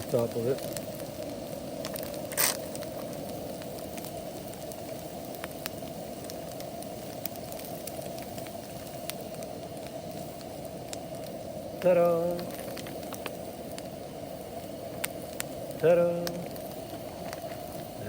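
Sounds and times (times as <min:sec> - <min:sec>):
fire crackling: 0:00.0 - 0:18.0
food sizzling in a pan: 0:00.0 - 0:18.0.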